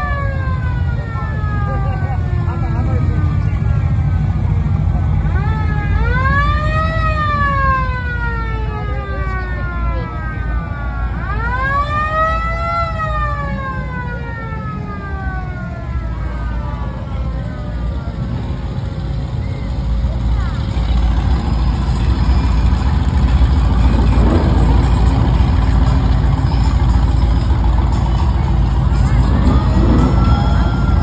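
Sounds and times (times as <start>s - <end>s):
passing car engines rumbling: 0.0s - 31.0s
siren wailing: 0.0s - 31.0s.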